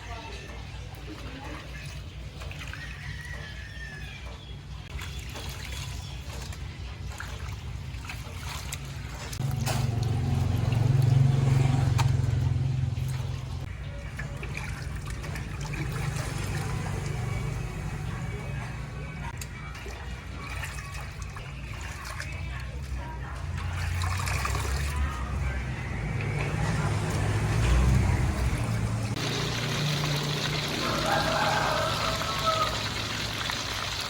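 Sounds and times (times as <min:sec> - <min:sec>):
water trickling and pouring: 0:00.0 - 0:03.5, 0:04.9 - 0:18.6, 0:19.3 - 0:34.0.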